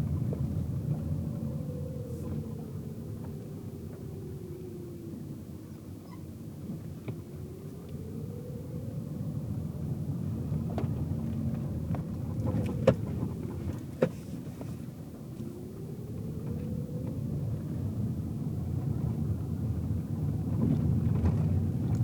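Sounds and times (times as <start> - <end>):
engine whine: 0.0 - 22.0
road and tyre rumble: 0.0 - 22.0.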